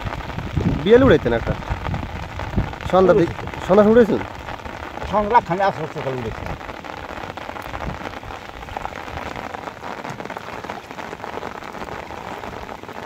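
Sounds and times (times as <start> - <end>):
heavy rain on water: 0.0 - 13.0.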